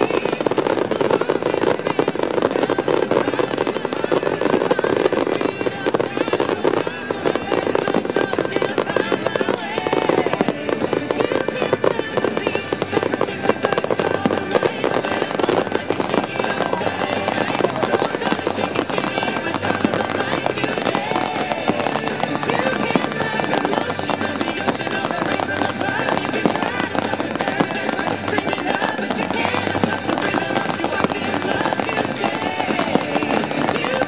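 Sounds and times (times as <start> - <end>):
fireworks bangs and crackling: 0.0 - 34.0
music playing: 0.0 - 34.0.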